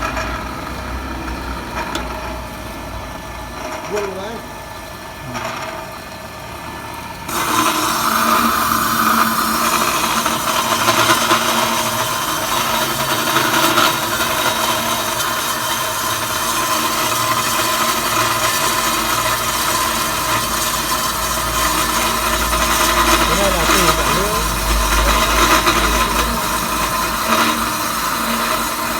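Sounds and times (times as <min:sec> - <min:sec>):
machine humming: 0:00.0 - 0:28.9
machine sawing through pipe: 0:00.0 - 0:28.9.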